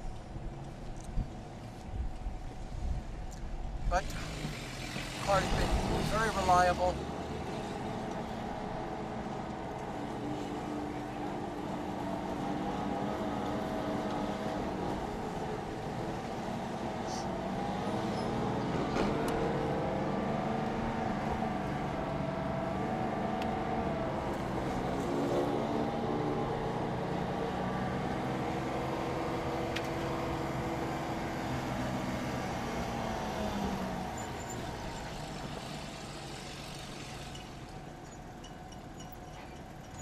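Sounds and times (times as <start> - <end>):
tyre and road noise: 0.0 - 40.0
car engine running hard: 3.9 - 37.8.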